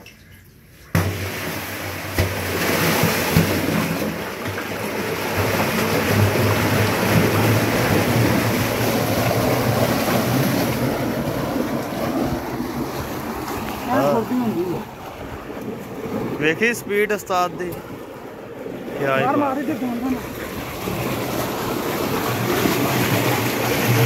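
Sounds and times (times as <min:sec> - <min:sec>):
sewage water rushing: 0:00.1 - 0:24.0.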